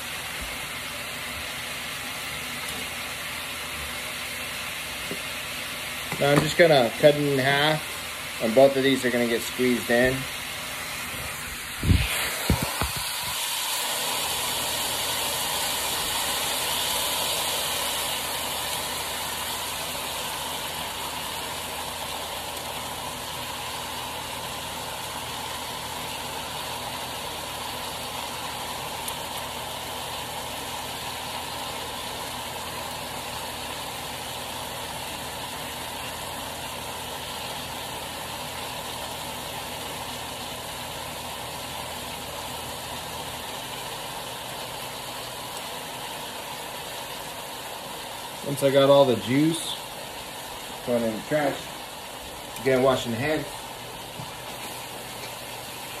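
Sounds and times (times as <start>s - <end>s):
food sizzling in skillet: 0.0s - 56.0s.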